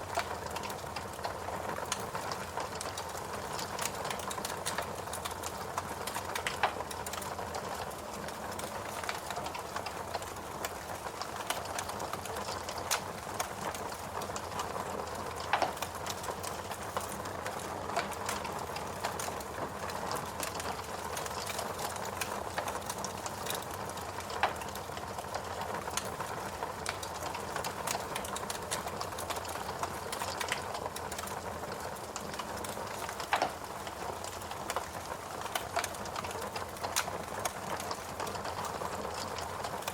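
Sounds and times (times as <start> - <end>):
fireplace crackling: 0.0 - 39.9.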